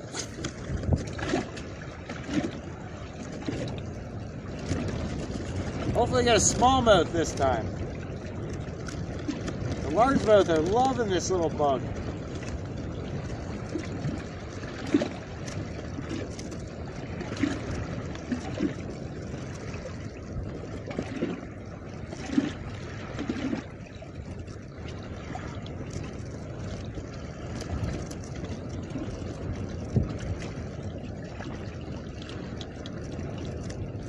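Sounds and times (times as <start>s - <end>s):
water slapping against boat hull: 0.0s - 34.0s.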